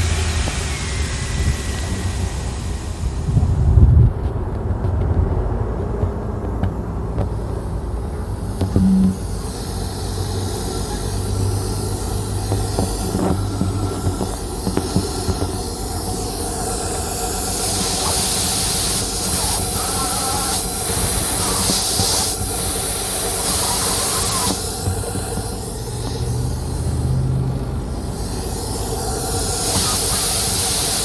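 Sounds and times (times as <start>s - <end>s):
air hiss from vacuum leak: 0.0s - 3.8s, 6.0s - 31.0s
engine idling: 0.0s - 31.0s.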